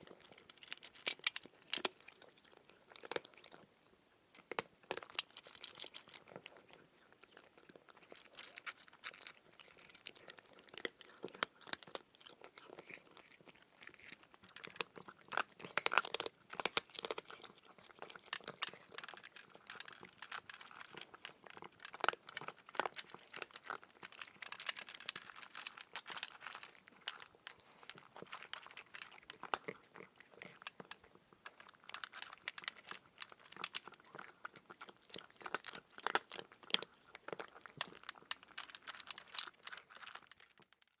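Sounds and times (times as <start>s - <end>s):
cat crunching dry kibble: 0.0s - 41.0s.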